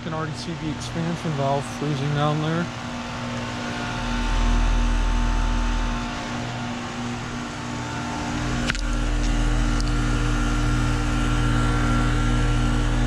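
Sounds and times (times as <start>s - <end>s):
heat pump compressor hum: 0.0s - 13.0s
outdoor fan running: 0.0s - 13.0s.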